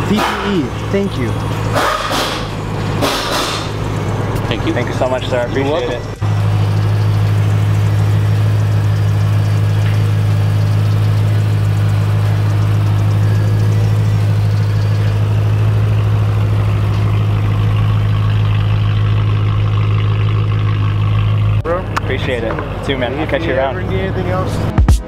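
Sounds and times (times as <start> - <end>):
car engine idling: 0.0 - 24.7.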